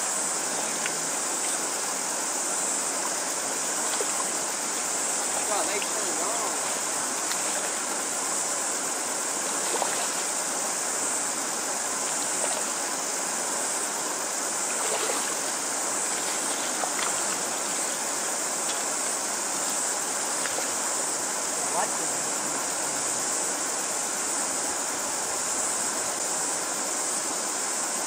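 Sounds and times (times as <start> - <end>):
river water rushing over stones: 0.0 - 28.0
faint fish splashes: 0.2 - 26.2.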